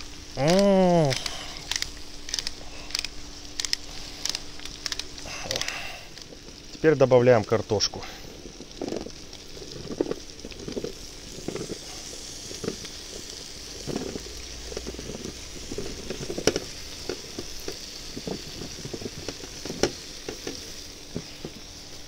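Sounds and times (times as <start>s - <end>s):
food sizzling: 0.0s - 22.0s.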